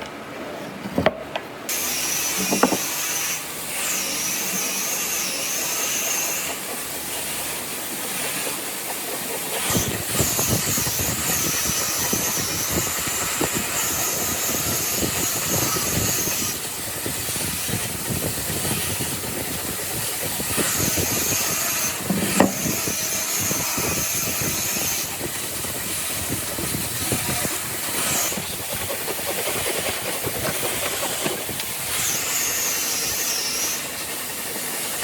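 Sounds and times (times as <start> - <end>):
power tool whining on wood: 1.7 - 35.0.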